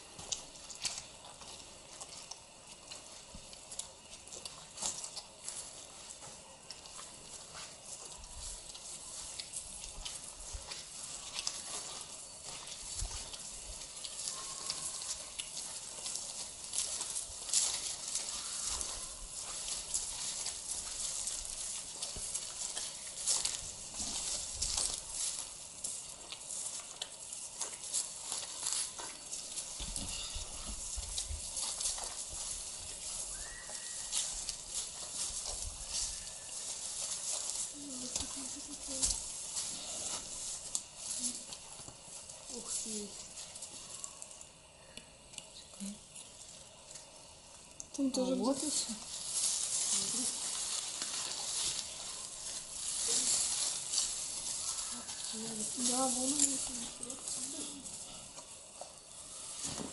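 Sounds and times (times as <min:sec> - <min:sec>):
footsteps on grassy path: 0:00.0 - 0:44.2, 0:48.2 - 0:59.9
light crackles underfoot: 0:00.0 - 0:59.9
legs swishing through grass: 0:04.1 - 0:44.2, 0:48.2 - 0:59.9
plants brushing against jeans: 0:04.2 - 0:44.2, 0:48.0 - 0:59.9.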